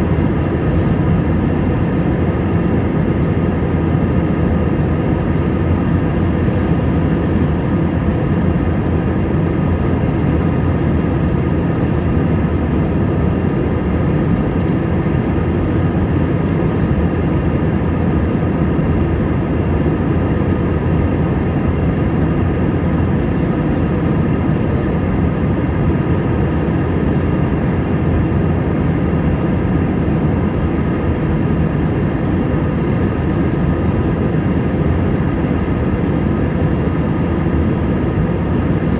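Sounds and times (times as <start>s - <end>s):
airliner cabin engine noise: 0.0s - 38.9s.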